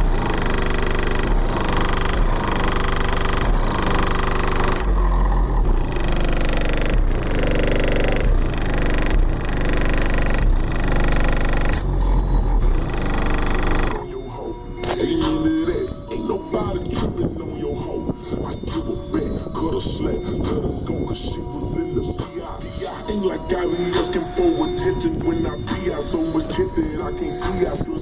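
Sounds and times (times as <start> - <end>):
deep pulsing bass: 0.0 - 28.0
hip-hop instrumental beat: 0.0 - 28.0
sustained synth chords: 0.0 - 28.0.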